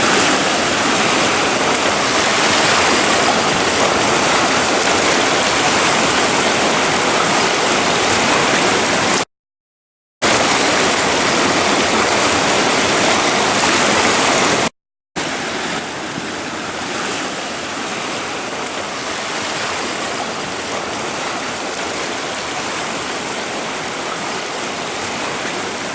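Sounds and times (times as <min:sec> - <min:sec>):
floodwater rushing through creek: 0:00.0 - 0:09.3, 0:10.2 - 0:25.9.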